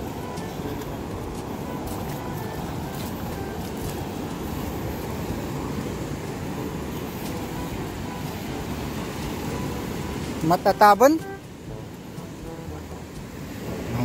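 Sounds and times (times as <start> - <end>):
ocean surf on rocks: 0.0 - 14.0.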